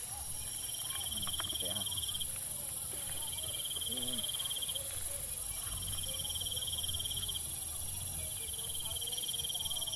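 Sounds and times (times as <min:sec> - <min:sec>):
constant high hiss: 0:00.0 - 0:09.9
insects trilling: 0:00.0 - 0:09.9.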